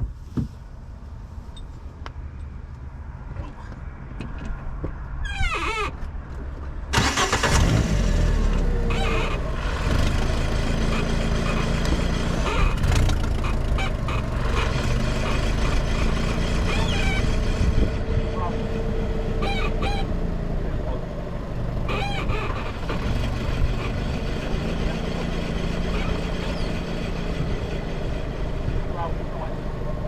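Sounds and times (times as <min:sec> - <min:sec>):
vehicle engine starting and running: 0:02.4 - 0:30.0.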